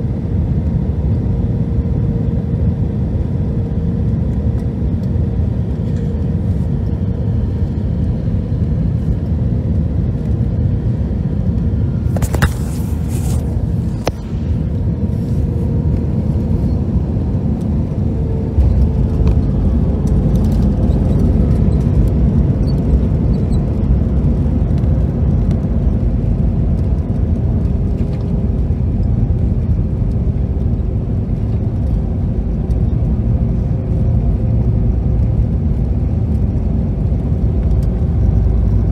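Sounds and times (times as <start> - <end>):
jet engine roar and rushing air: 0.0 - 38.9.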